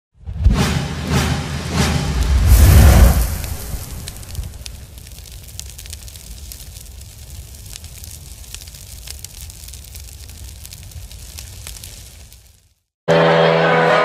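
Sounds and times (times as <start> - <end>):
fire crackling and rumbling: 1.7 - 12.9.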